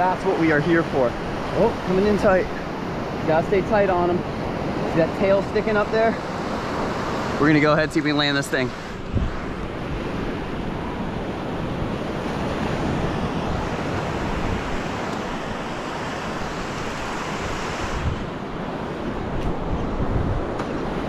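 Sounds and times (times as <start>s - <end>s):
ocean surf washing up a beach: 0.0s - 21.0s
wind buffeting microphone: 0.0s - 21.0s.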